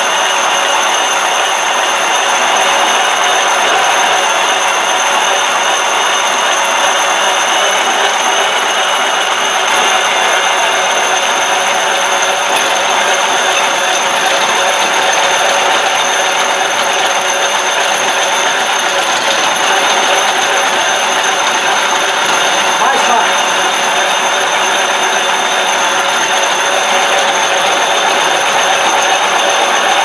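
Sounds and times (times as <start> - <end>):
concrete grinder grinding: 0.0 - 30.0
high motor whine: 0.0 - 30.0.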